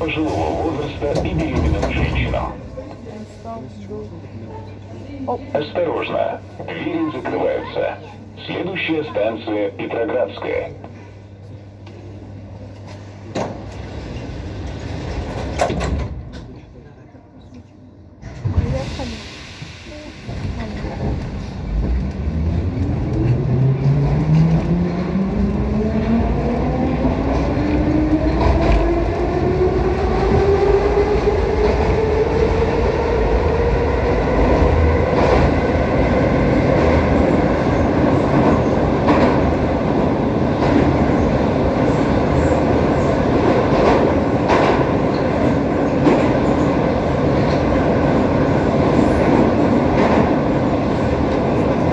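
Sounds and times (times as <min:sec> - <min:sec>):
wheels rumbling on rail: 0:00.0 - 0:51.9.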